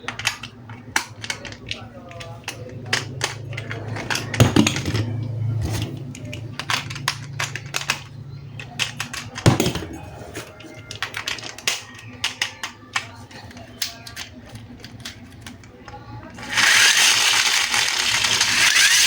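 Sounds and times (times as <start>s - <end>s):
plastic toy parts clicking: 0.0s - 9.8s, 10.4s - 19.0s.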